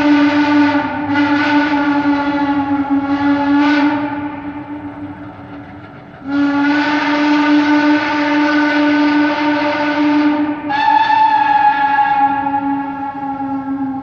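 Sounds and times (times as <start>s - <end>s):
steam locomotive whistle blasts: 0.0s - 5.4s, 6.2s - 14.0s.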